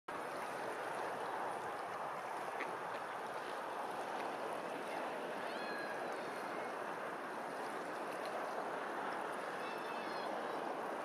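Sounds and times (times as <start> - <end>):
water washing and lapping: 0.1 - 11.0.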